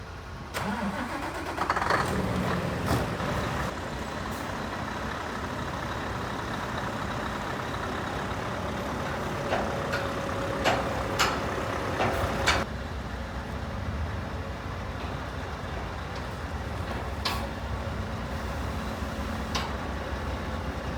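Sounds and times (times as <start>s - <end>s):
diesel engine running: 0.1s - 20.9s.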